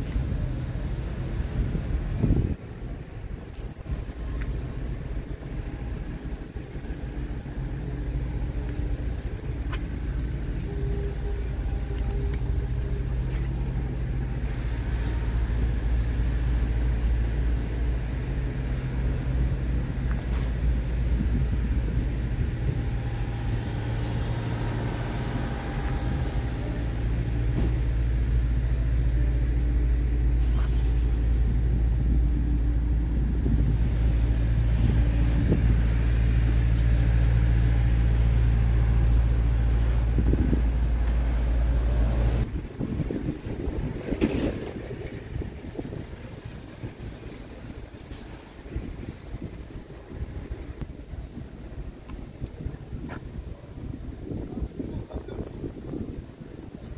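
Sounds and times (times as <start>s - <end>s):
diesel engine idling: 0.0s - 56.8s.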